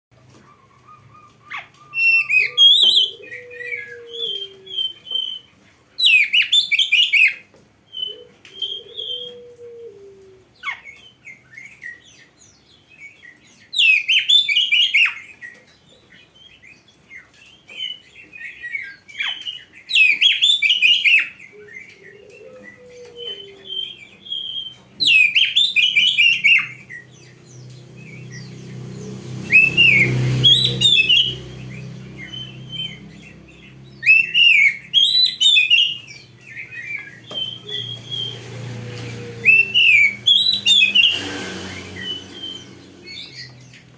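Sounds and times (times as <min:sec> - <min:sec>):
magpie-robin singing: 0:00.4 - 0:09.3, 0:10.6 - 0:43.9.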